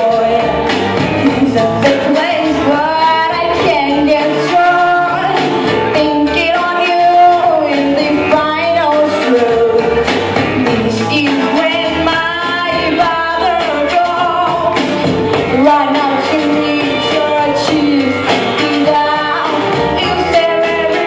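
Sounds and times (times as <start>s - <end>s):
drums: 0.0s - 21.0s
live band playing: 0.0s - 21.0s
person singing: 0.0s - 21.0s.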